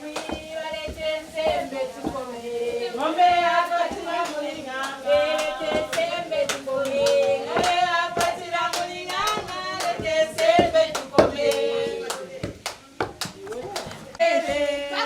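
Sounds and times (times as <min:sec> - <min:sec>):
hand clapping: 0:00.0 - 0:02.3, 0:03.0 - 0:14.2
women singing: 0:00.0 - 0:15.0.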